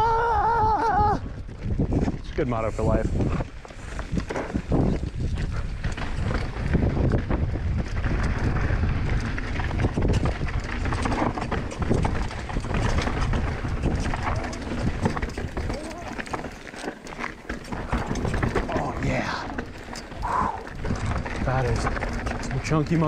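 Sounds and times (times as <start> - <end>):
wind on microphone: 0.0 - 16.4, 17.7 - 22.6
bike rattling over rocks: 1.3 - 23.0.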